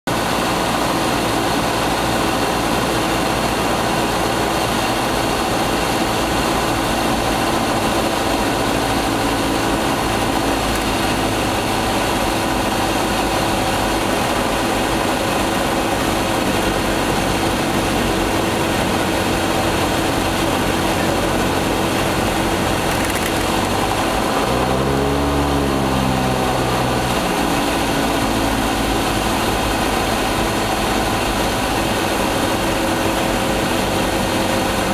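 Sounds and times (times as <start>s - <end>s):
light aircraft engine and propeller: 0.1s - 34.9s.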